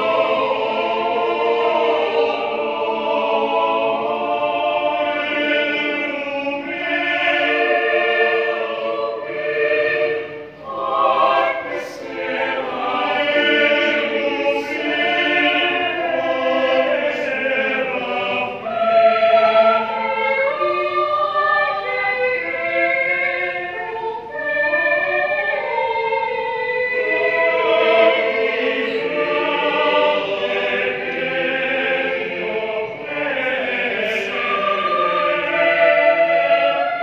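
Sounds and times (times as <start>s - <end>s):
choir singing in harmony: 0.0s - 37.0s.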